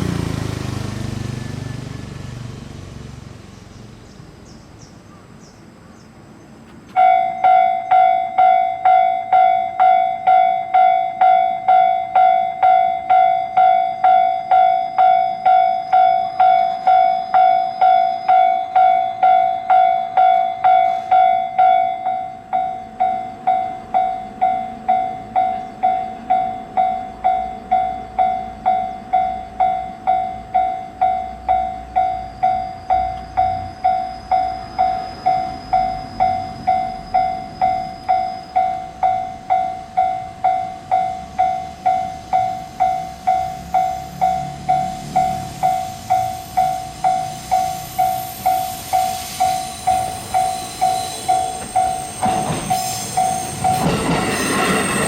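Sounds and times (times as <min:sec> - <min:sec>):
train rumbling past: 0:00.0 - 0:55.0
level-crossing warning bell: 0:06.9 - 0:55.0.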